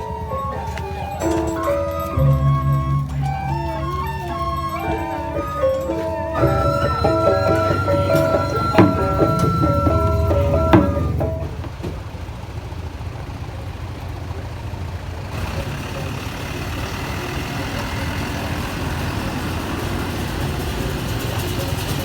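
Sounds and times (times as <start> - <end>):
road or wind noise: 0.0 - 22.0
vehicle engine low rumble: 0.0 - 22.0.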